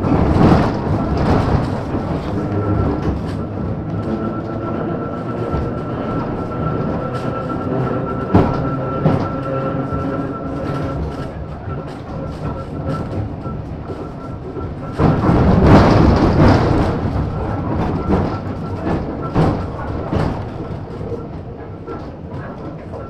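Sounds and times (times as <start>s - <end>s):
tram running: 0.0s - 23.0s.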